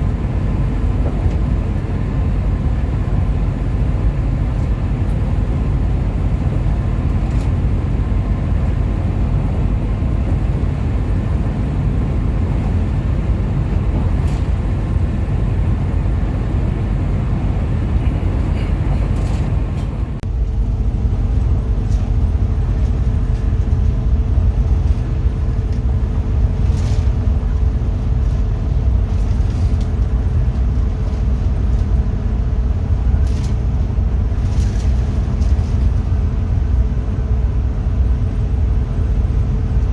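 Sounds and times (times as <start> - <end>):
coach engine and road rumble: 0.0 - 39.9.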